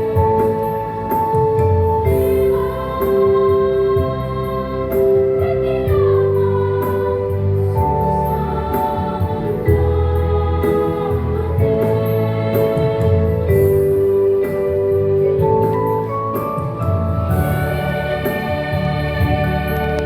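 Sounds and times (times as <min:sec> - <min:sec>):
choir singing sustained chords: 0:02.0 - 0:16.0, 0:16.6 - 0:20.0.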